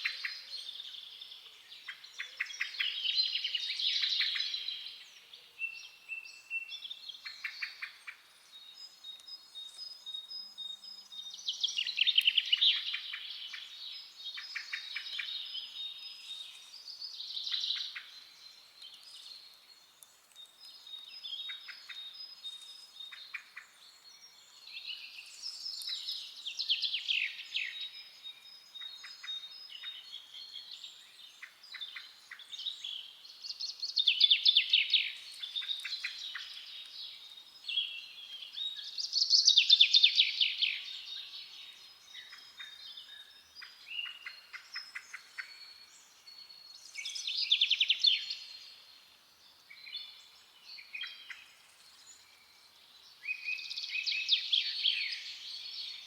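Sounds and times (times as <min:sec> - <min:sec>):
soft bird chirps and calls: 0:00.0 - 0:56.0.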